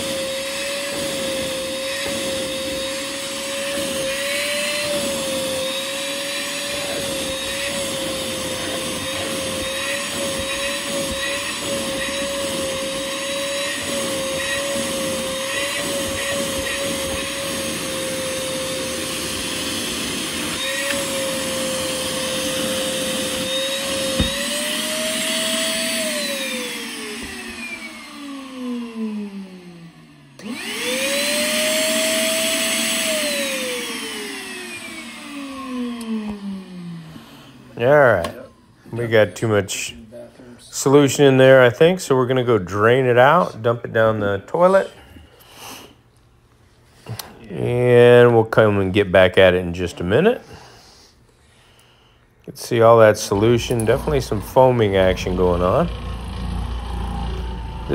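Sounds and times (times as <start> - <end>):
shop vac running: 0.0 - 57.9.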